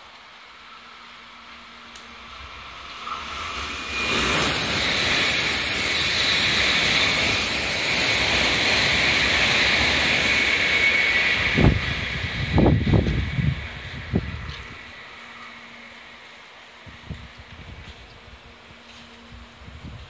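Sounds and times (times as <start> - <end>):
train passing with roar: 0.0 - 20.0.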